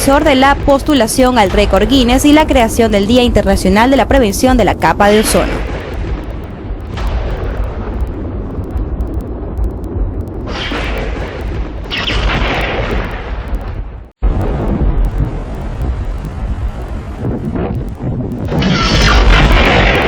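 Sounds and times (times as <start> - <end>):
sharp thunder cracks: 0.0 - 3.8, 4.6 - 20.0
deep thunder rumble: 0.0 - 20.0.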